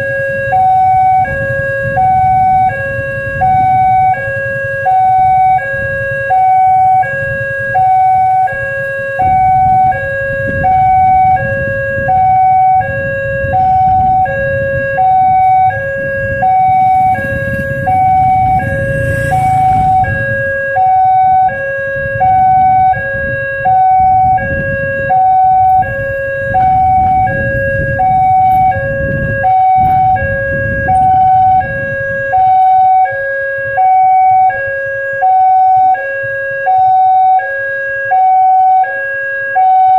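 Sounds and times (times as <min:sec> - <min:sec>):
level crossing two-tone siren: 0:00.0 - 0:39.9
road traffic rumble: 0:00.0 - 0:39.9.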